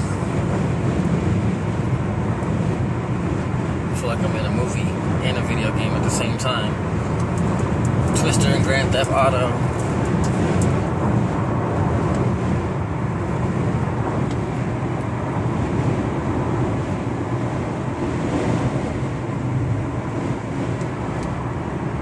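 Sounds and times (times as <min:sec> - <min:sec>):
road and wind rumble: 0:00.0 - 0:22.0.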